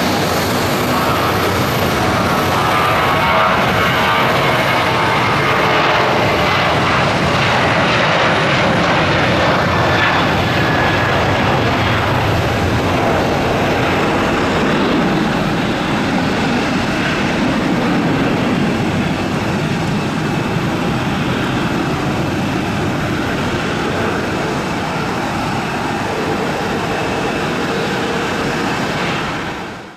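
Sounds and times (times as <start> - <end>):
high jet whine: 0.0 - 29.9
jet engine roar: 0.0 - 29.9.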